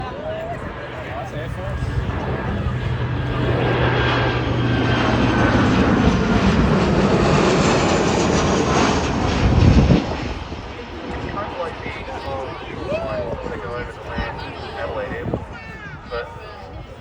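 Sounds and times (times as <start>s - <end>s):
jet aircraft flyover: 0.0s - 17.0s.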